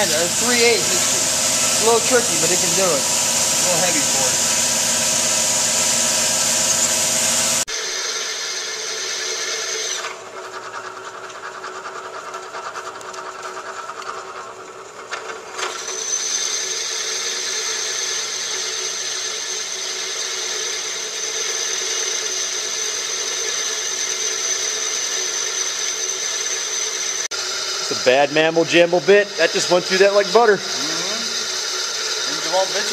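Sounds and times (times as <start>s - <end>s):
power drill boring through metal: 0.0s - 32.9s.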